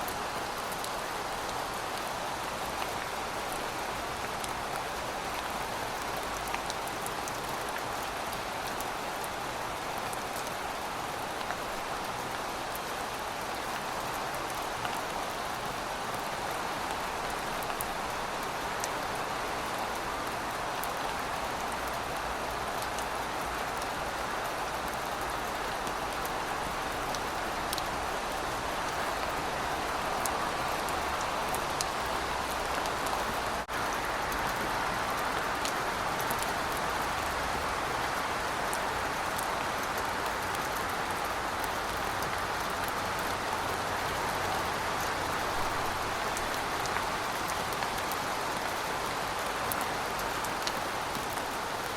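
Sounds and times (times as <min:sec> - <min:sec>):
rain falling on pavement: 0:00.0 - 0:51.9.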